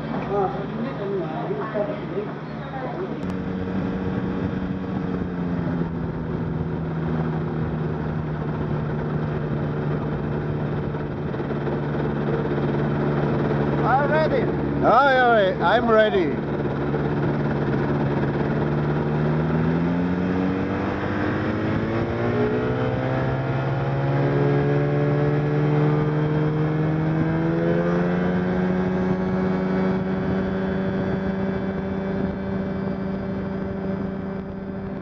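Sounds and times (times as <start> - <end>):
light aircraft engine running hard: 0.0 - 35.0.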